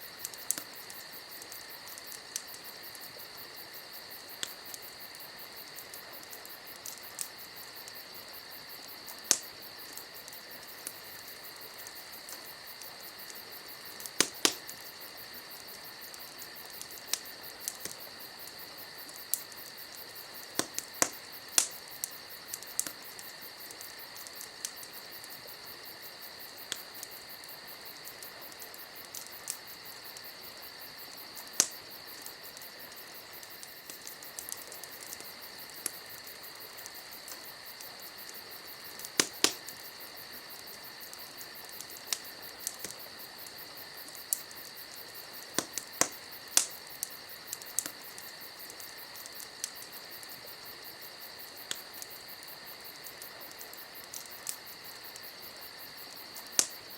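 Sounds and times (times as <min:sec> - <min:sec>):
campfire crackling and popping: 0:00.0 - 0:56.9
insects trilling: 0:00.0 - 0:56.9.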